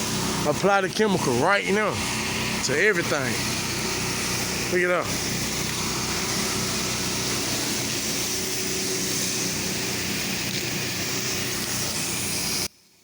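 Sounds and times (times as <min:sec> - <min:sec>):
pressure washer engine humming: 0:00.0 - 0:12.7
water spray hissing: 0:00.0 - 0:12.7.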